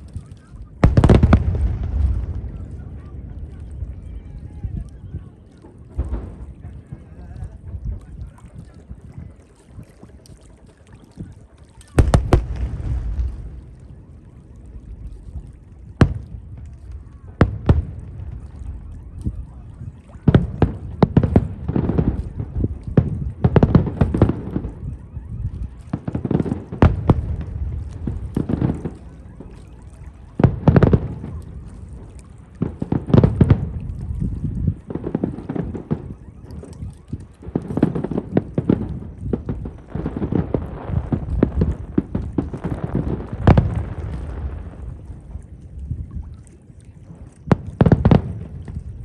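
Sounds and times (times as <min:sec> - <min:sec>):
fireworks bursting: 0:00.0 - 0:04.5, 0:05.4 - 0:08.0, 0:11.9 - 0:15.2, 0:15.8 - 0:45.5, 0:47.0 - 0:49.0
fireworks crackle: 0:00.0 - 0:08.2, 0:11.8 - 0:46.4, 0:47.0 - 0:49.0.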